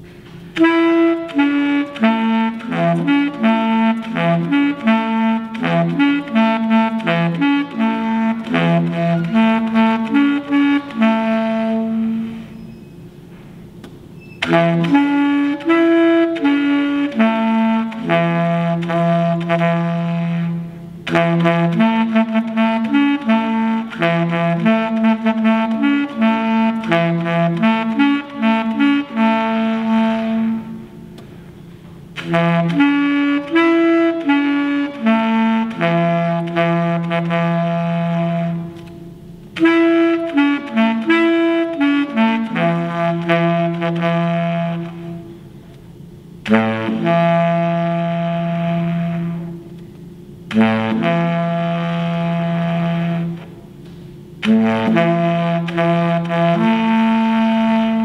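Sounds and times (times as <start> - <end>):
solo saxophone melody: 0.0 - 58.0.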